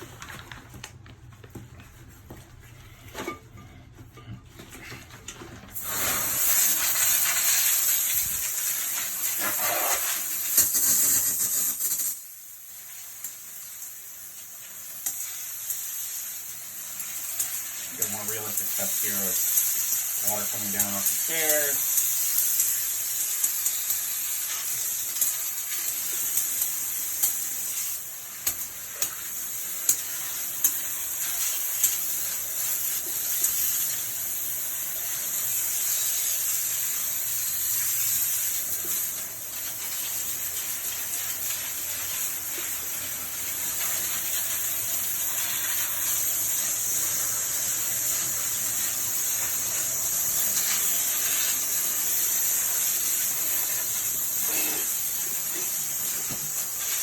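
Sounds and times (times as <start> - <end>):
water spraying from a hose: 5.7 - 57.0.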